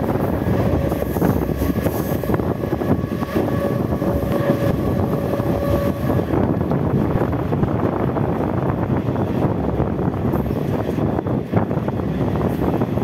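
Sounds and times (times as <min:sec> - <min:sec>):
train wheels rumbling on rail: 0:00.0 - 0:13.0
wind on microphone: 0:00.0 - 0:13.0.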